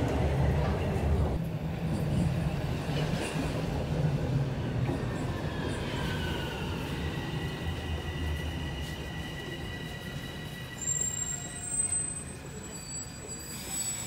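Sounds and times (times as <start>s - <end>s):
high train whine: 0.0s - 14.0s.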